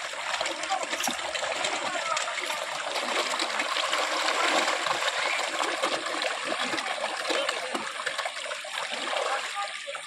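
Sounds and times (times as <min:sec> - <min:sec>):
fish splashing at water surface: 0:00.0 - 0:10.0.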